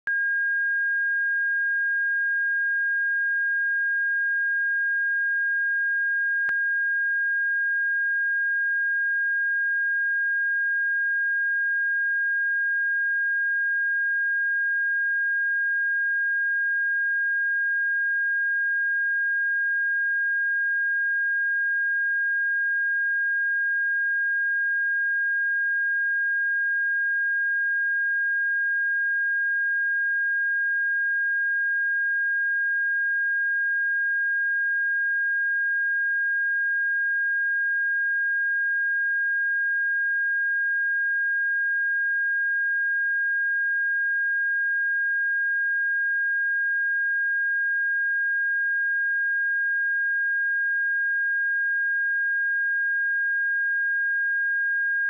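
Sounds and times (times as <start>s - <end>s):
sine-wave test tone: 0.0s - 55.0s.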